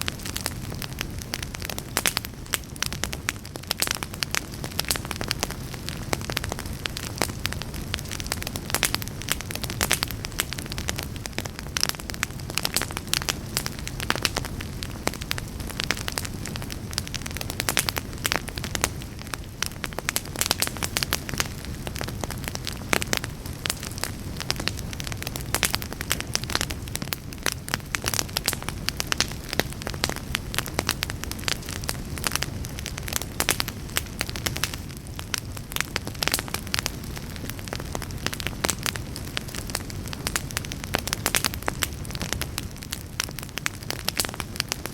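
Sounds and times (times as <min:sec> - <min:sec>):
low rumble of flame: 0:00.0 - 0:44.9
wood fire crackling and popping: 0:00.0 - 0:44.9.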